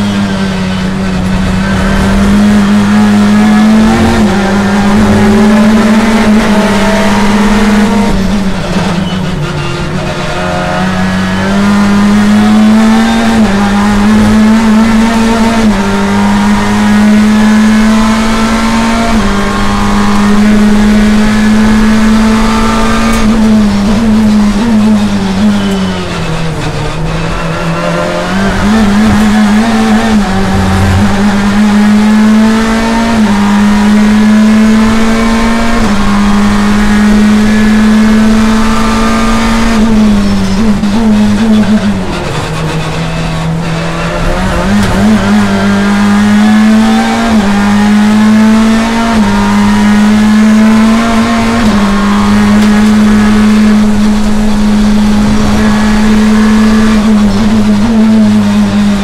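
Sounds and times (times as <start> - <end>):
racing car engine high revs: 0.0 - 59.0.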